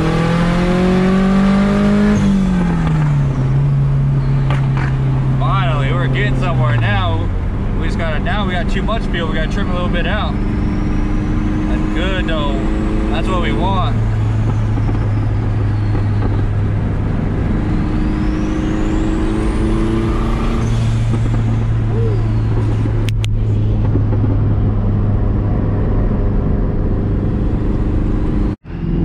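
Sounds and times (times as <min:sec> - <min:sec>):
car engine cruising: 0:00.0 - 0:29.0.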